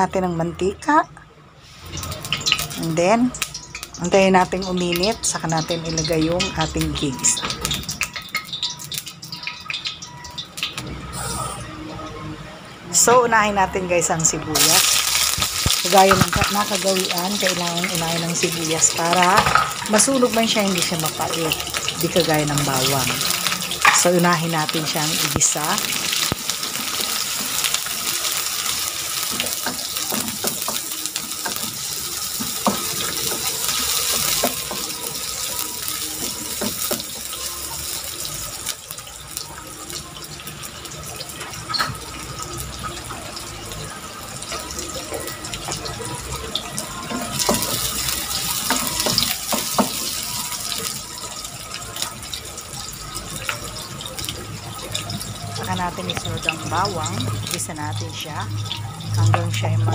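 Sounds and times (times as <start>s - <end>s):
onions sizzling in hot oil: 0.6s - 11.3s, 12.9s - 59.9s.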